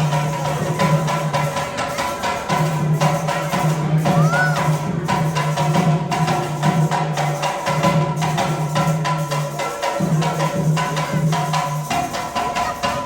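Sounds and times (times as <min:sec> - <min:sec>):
drumming: 0:00.0 - 0:13.0.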